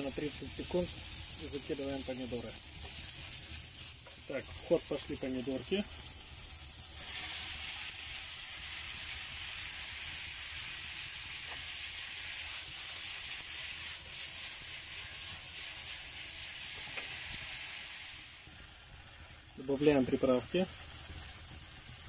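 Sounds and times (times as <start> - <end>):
faint fire crackles: 0.0 - 22.0
tomatoes sizzling in frying pan: 0.0 - 22.0.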